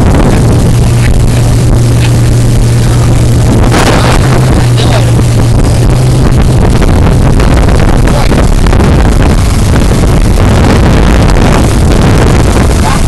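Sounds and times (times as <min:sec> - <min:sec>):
outboard motor running: 0:00.0 - 0:13.0
steady low hum: 0:00.0 - 0:13.0
wind and water rushing: 0:00.0 - 0:13.0.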